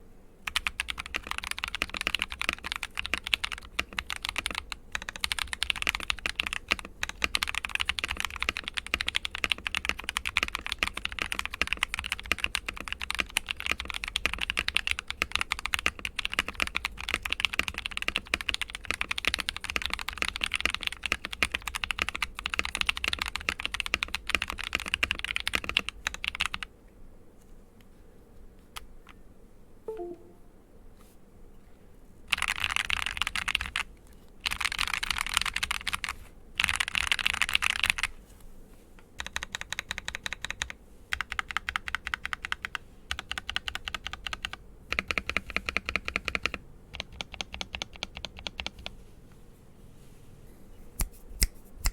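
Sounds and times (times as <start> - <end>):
fast typing on mechanical keyboard: 0.4 - 26.7, 32.3 - 38.2, 39.2 - 48.9.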